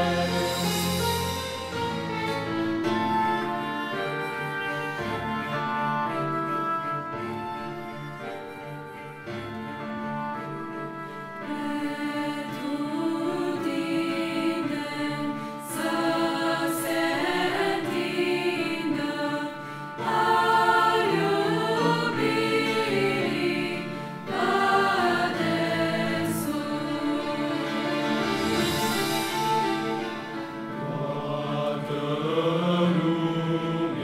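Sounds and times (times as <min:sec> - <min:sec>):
choir singing a hymn: 0:00.0 - 0:07.0, 0:07.6 - 0:34.0.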